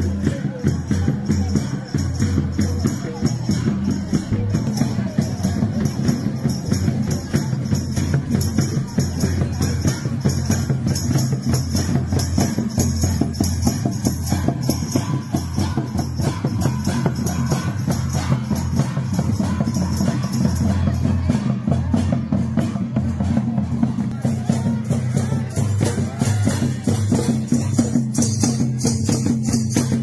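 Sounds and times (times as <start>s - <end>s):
bright metallic jingle: 0.0s - 22.1s, 24.2s - 30.0s
drums beaten in fast rhythm: 0.0s - 30.0s.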